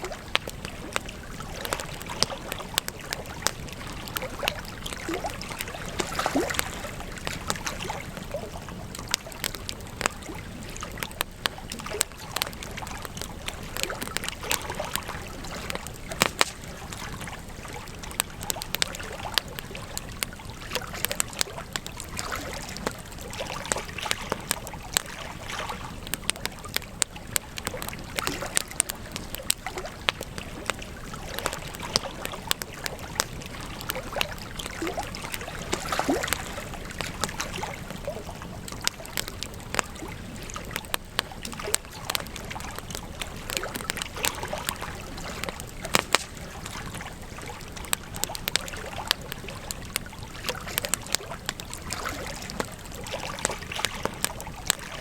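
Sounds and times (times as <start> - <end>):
burning wood crackling and popping: 0.0 - 55.0
rush of campfire flames: 0.0 - 55.0.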